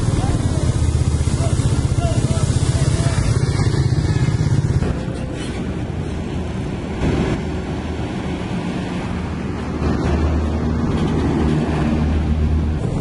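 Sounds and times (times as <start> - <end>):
low diesel engine rumble: 0.0 - 13.0
tyres rushing on road: 0.0 - 13.0.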